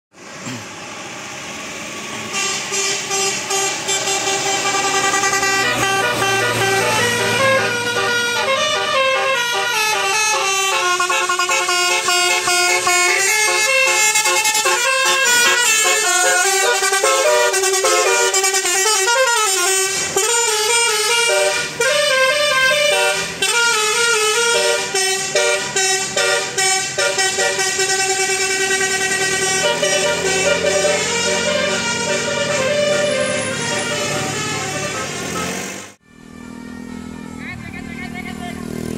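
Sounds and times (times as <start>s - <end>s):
multi-tone air horn playing a tune: 2.3s - 35.6s.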